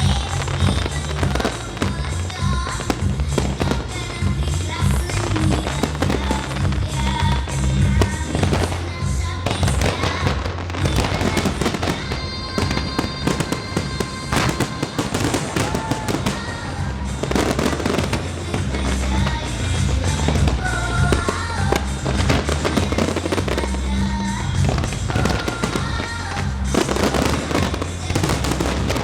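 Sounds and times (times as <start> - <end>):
fireworks bursting and crackling: 0.0 - 29.0
loud music with bass line: 0.0 - 29.0.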